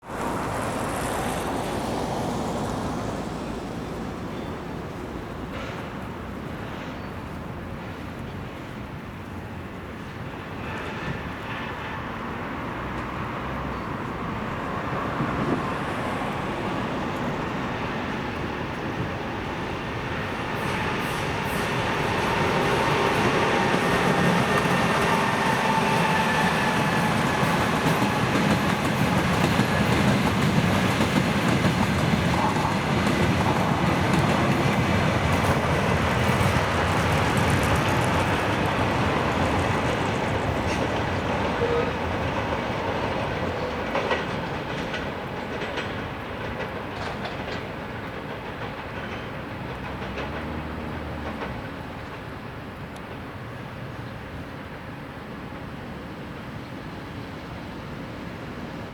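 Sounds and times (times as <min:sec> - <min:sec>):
train wheels clattering over rails: 0:00.0 - 0:09.4, 0:10.0 - 0:54.3.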